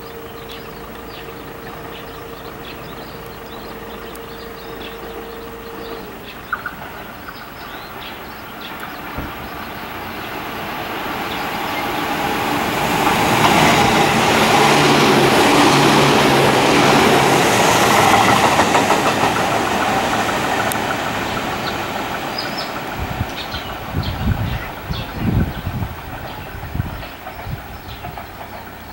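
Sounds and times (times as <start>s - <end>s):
electric train passing: 0.0s - 28.9s.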